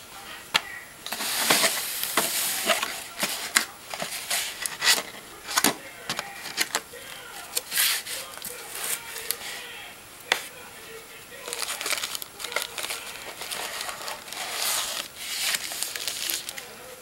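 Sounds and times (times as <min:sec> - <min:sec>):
cardboard rustling and scraping: 0:01.1 - 0:09.6, 0:11.4 - 0:16.8.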